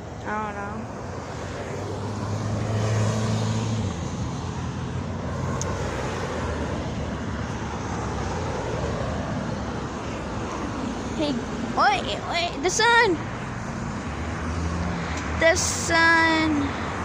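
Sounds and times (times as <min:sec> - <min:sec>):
road traffic noise: 0:00.0 - 0:17.0
vehicle passing: 0:00.4 - 0:17.0.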